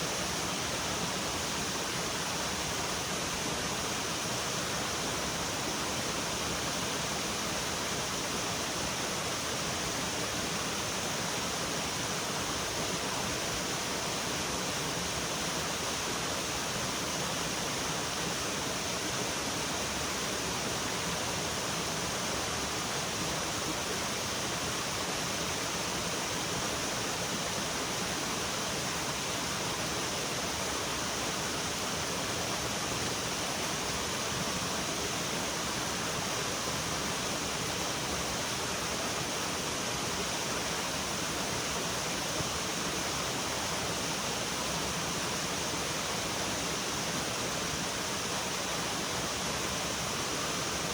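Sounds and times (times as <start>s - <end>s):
flowing water rushing: 0.0s - 50.9s.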